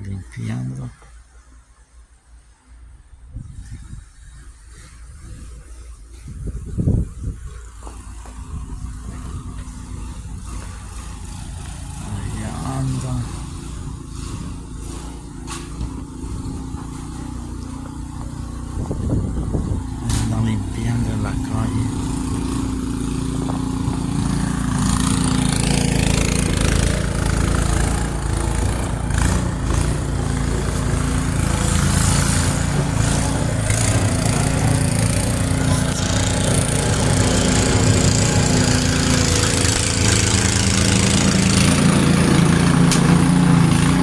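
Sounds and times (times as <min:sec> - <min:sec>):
snowblower engine running: 0:07.6 - 0:44.0.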